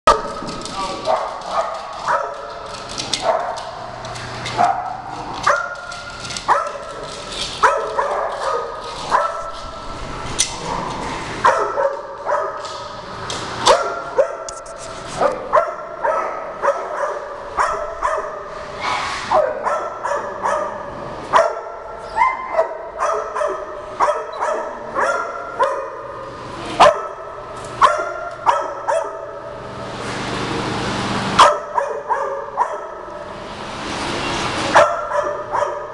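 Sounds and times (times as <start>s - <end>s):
dogs barking and yipping: 0.1s - 13.0s, 13.6s - 29.7s, 31.4s - 33.2s, 34.6s - 35.9s.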